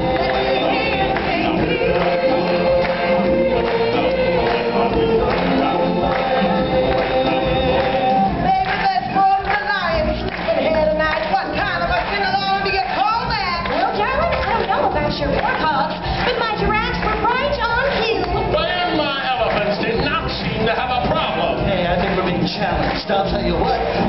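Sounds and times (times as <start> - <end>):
group of voices singing: 0.0 - 24.0
stage show accompaniment: 0.0 - 24.0.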